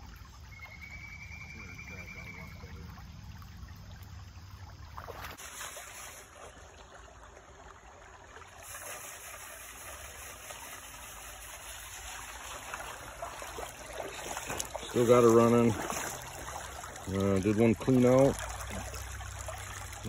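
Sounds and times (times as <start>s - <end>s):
creek water trickling over rocks: 0.0s - 20.0s.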